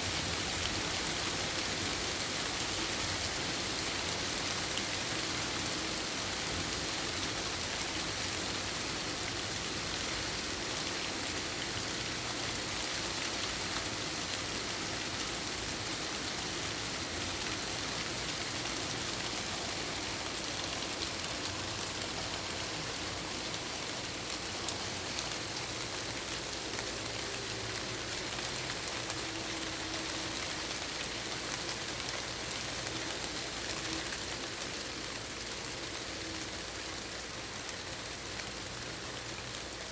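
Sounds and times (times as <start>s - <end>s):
raindrops ticking on surfaces: 0.0s - 39.9s.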